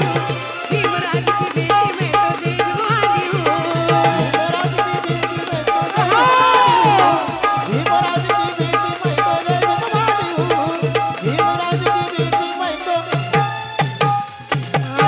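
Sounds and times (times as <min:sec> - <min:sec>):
woman singing: 0:00.0 - 0:13.2, 0:14.8 - 0:15.0
keyboard phrases: 0:00.0 - 0:13.4
dholak hand drum beat: 0:00.0 - 0:15.0.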